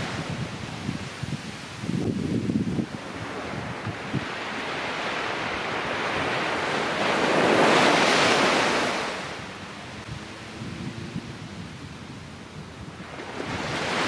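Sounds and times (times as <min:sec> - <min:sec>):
ocean wave breaking: 0:00.0 - 0:14.0.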